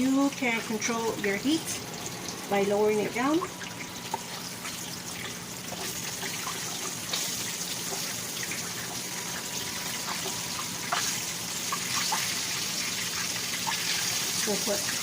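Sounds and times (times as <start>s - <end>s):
chicken frying in hot oil: 0.0s - 15.0s.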